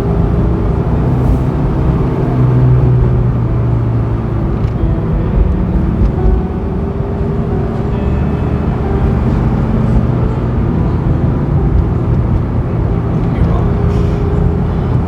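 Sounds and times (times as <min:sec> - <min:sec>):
car engine drone: 0:00.0 - 0:15.0
road and tyre noise: 0:00.0 - 0:15.0.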